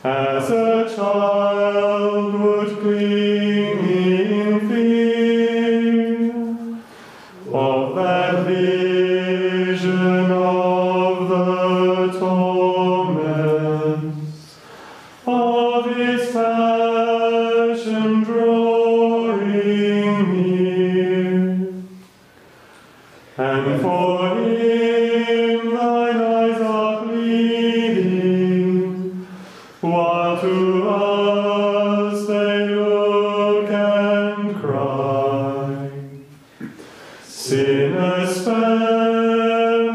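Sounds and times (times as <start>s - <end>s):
male voices chanting in unison: 0.0s - 21.9s, 23.4s - 39.9s.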